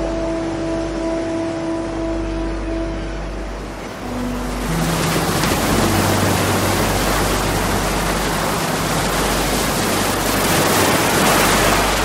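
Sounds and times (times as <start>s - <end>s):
storm waves breaking: 0.0s - 12.0s.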